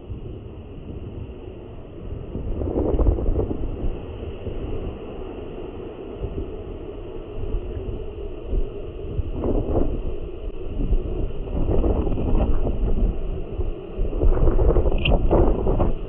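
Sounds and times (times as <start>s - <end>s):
wind gusting on microphone: 0.0s - 16.0s.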